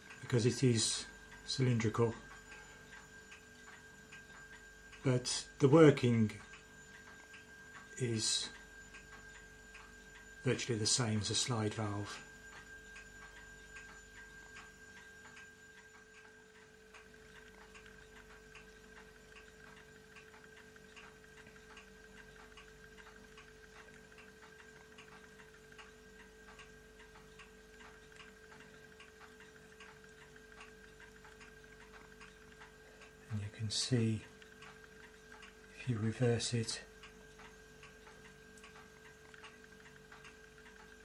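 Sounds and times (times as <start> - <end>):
faint regular ticking: 0.0 - 41.0
faint steady hum: 0.0 - 41.0.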